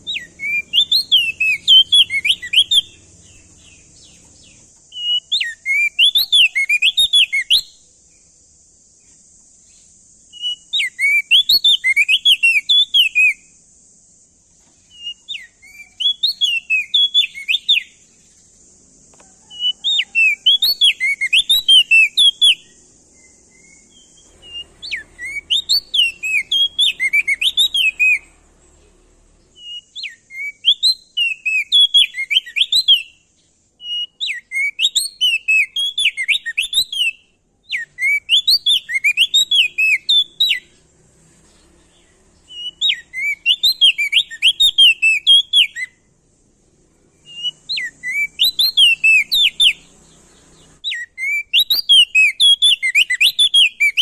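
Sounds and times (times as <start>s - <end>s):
songbird singing whistled notes: 0.0s - 46.4s, 47.0s - 54.0s
steady high hiss: 0.0s - 54.0s.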